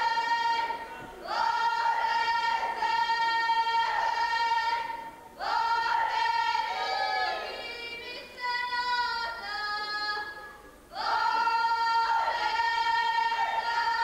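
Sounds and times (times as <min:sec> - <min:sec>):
women singing folk song: 0:00.0 - 0:14.0.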